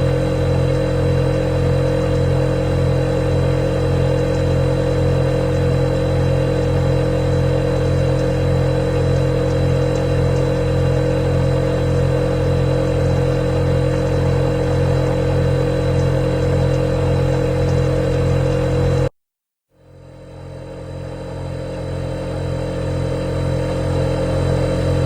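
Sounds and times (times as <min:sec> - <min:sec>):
refrigerator humming: 0:00.0 - 0:19.1, 0:19.8 - 0:25.0.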